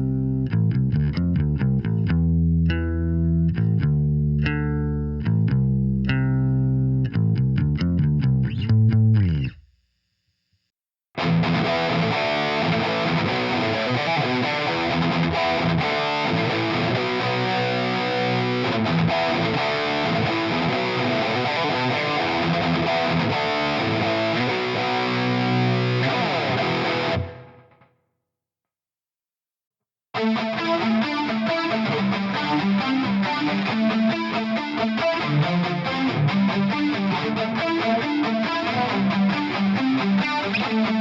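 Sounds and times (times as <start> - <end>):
distorted electric guitar: 0.0 - 9.8, 11.2 - 27.9, 30.2 - 41.0.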